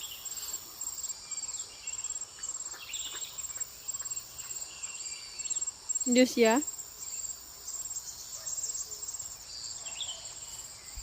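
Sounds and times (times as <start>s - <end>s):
high insect drone: 0.0s - 11.0s
insects chirping in pulsed bursts: 0.0s - 11.0s.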